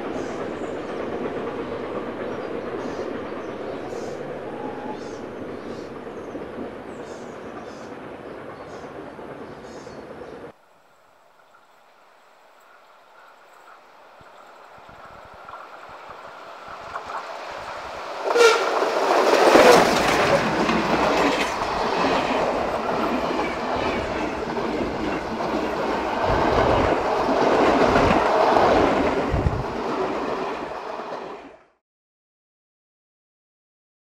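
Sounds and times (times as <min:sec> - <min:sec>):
steam locomotive passing: 0:00.0 - 0:31.8.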